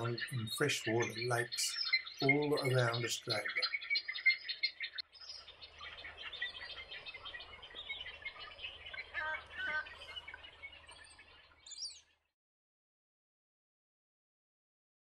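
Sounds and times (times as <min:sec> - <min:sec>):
wild birds chirping: 0:00.0 - 0:12.4.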